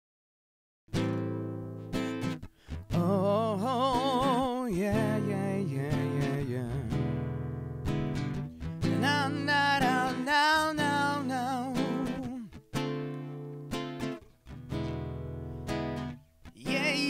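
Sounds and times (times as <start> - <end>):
strummed acoustic guitar: 0.9 - 17.0.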